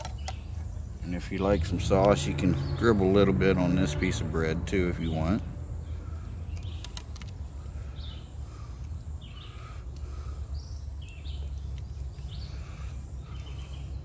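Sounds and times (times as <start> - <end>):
bird calling: 0.0 - 14.0
steady low rumble: 0.4 - 14.0.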